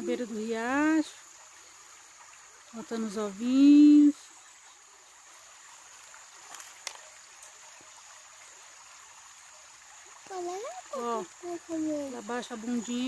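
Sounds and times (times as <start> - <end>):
high insect chirr: 0.0 - 13.0
small stream trickling: 0.0 - 13.0.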